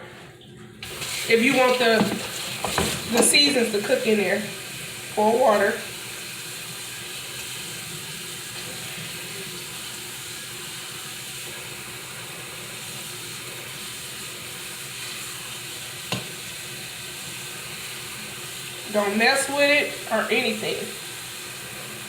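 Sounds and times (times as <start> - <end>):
tap water running into pot: 0.8 - 22.0.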